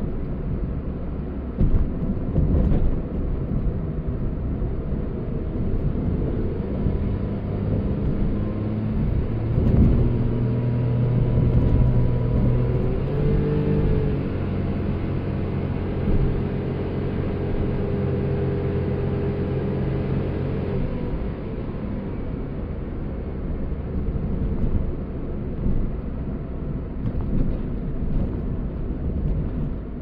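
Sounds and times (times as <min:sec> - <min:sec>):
road rumble: 0:00.0 - 0:30.0
van engine droning: 0:00.0 - 0:30.0.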